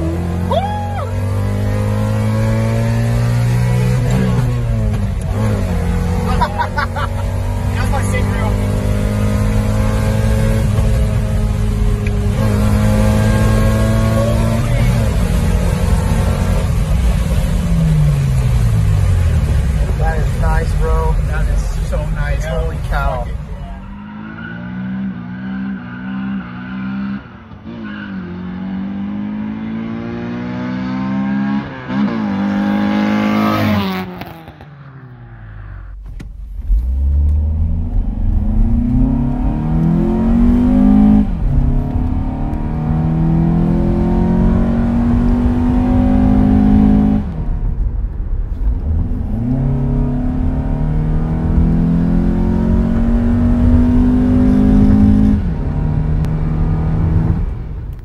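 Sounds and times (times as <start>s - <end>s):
car engine accelerating through gears: 0.0s - 58.0s.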